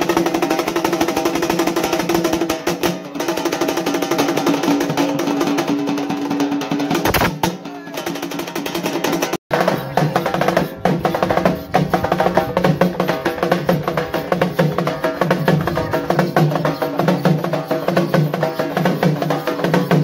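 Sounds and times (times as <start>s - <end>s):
rapid folk drumming: 0.0s - 20.0s.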